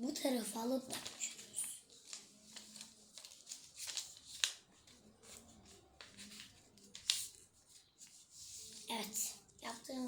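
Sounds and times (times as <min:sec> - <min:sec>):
paper rustling and crackling: 0:00.7 - 0:09.6.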